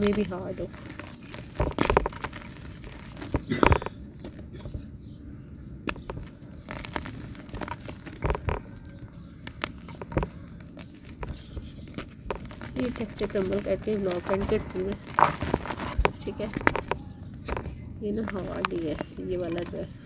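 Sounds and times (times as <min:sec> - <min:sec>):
dried dirt cracking and crunching: 0:00.0 - 0:20.0.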